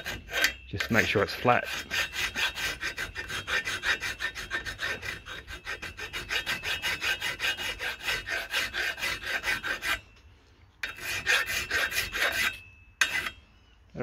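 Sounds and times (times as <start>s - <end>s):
hand file scraping steel: 0.0s - 13.7s.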